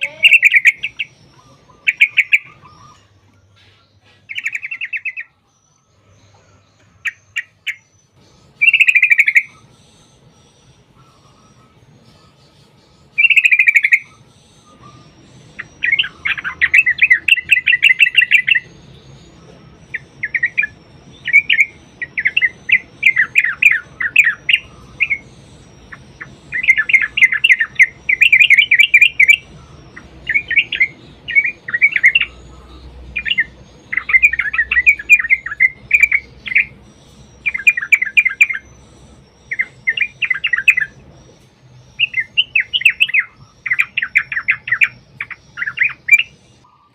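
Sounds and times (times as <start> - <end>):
bird singing chattering phrases: 0.0 - 46.9.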